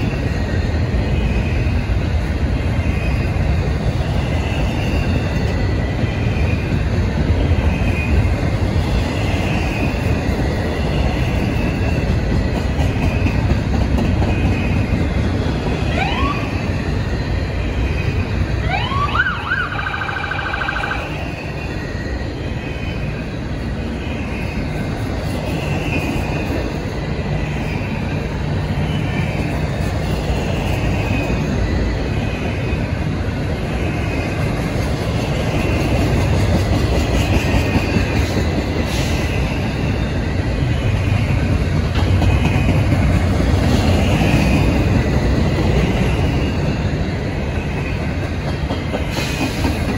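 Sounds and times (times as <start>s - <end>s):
rumble of wheels on rail: 0.0s - 49.9s.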